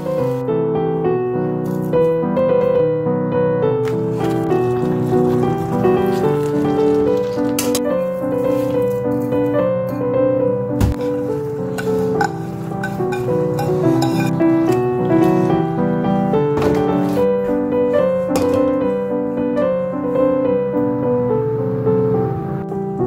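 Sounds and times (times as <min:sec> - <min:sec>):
melodic background music: 0:00.0 - 0:23.0.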